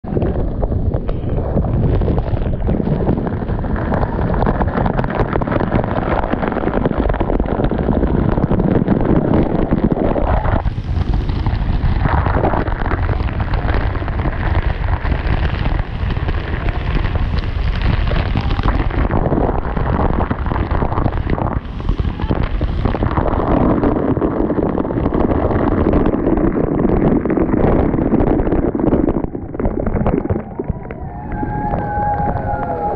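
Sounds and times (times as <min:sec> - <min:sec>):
water spraying on microphone: 0:01.4 - 0:32.9.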